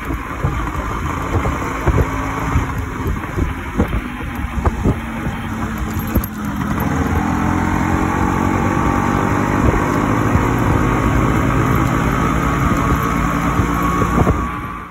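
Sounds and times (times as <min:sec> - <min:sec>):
road and wind noise: 0:00.0 - 0:14.9
two-stroke engine running: 0:00.0 - 0:14.9.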